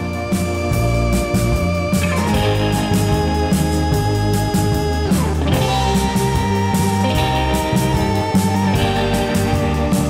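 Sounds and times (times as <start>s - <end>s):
guitar music with bass and beat: 0.0s - 10.0s.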